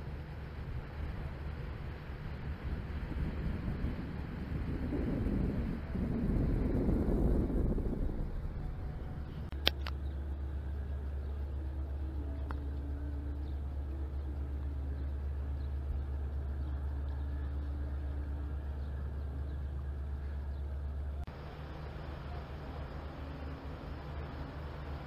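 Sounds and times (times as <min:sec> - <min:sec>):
ship engines droning: 0:00.0 - 0:25.0.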